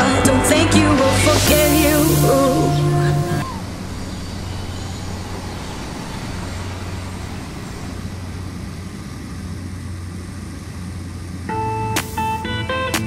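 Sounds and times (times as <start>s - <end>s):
airflow noise: 0.0s - 12.9s
turboprop cabin drone: 0.0s - 13.0s.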